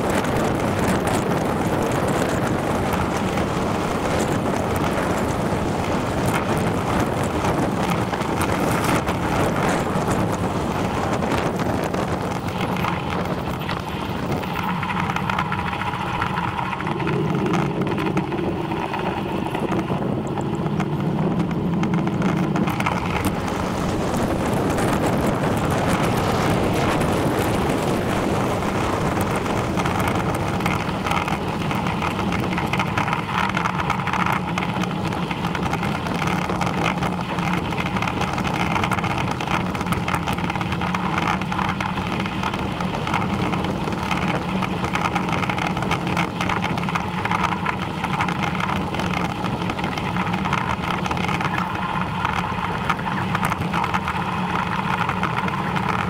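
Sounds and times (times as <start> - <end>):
bicycle tyres on tarmac: 0.0 - 56.0
wind rushing over microphone: 0.0 - 56.0.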